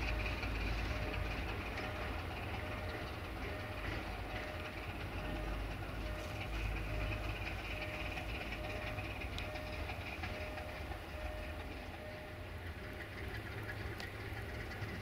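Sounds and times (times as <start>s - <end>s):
diesel train engine rumble: 0.0s - 15.0s
wheels hissing on rail: 0.0s - 15.0s.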